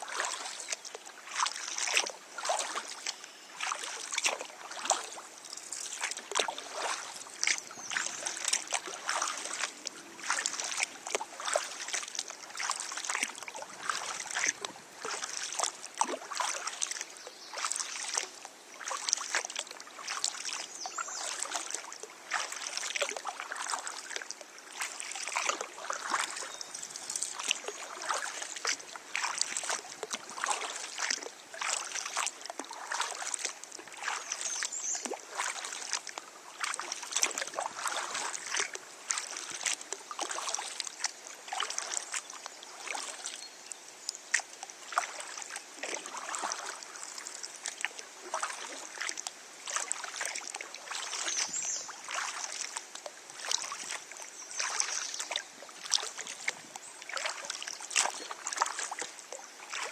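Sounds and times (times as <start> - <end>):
paddle splashing in water: 0.0 - 59.9
water trickling and dripping: 0.1 - 59.9.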